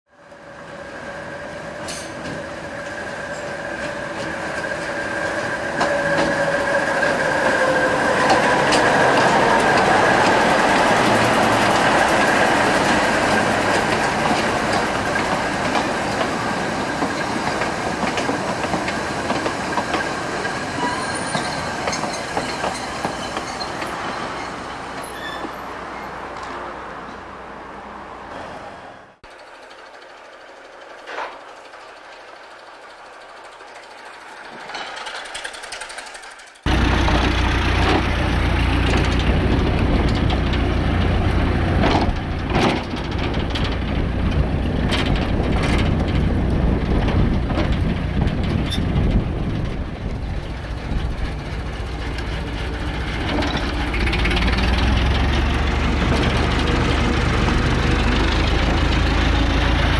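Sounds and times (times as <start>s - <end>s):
train running on rails: 0.1s - 59.9s
wheels clicking on track: 0.3s - 26.6s, 29.2s - 59.9s.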